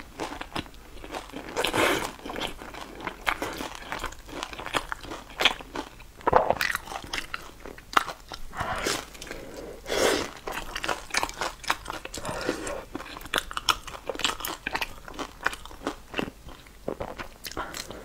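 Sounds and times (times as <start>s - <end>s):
crunchy chewing of fried food: 0.0s - 18.0s.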